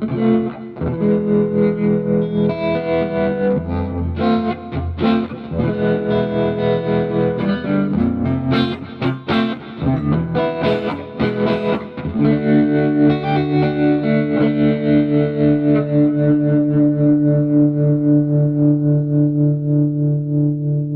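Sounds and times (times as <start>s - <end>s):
electric guitar with tremolo: 0.0s - 20.9s.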